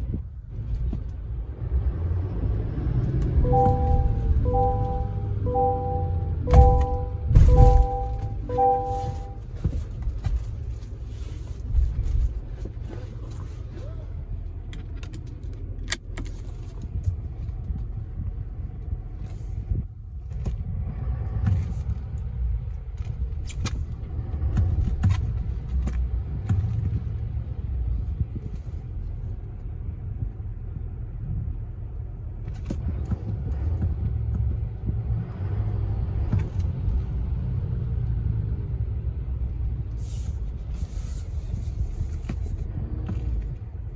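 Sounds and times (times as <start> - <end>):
motor vehicle rumble: 0.0 - 43.9.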